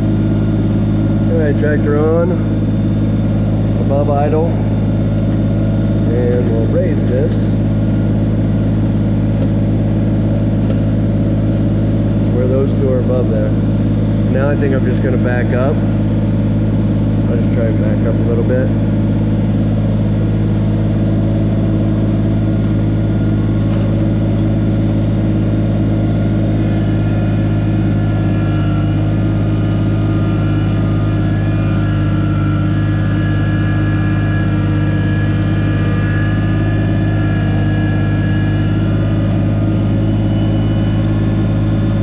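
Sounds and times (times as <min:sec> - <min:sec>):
faint high whine: 0:00.0 - 0:42.0
tractor diesel engine running: 0:00.0 - 0:42.0.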